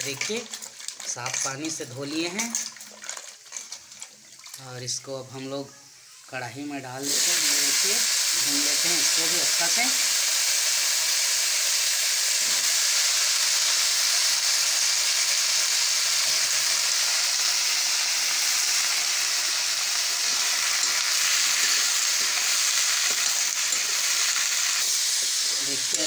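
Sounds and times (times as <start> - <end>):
pumpkin sizzling in hot oil: 0.0 - 26.0.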